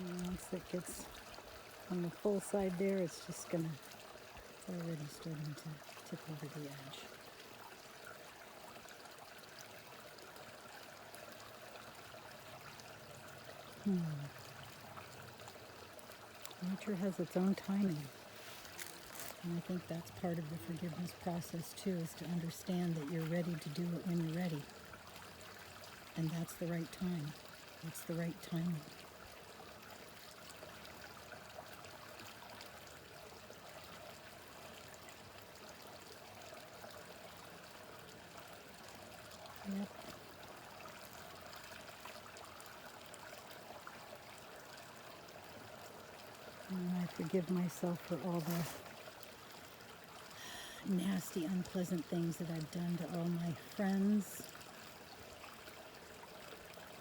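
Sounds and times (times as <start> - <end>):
brook babbling: 0.0 - 57.0.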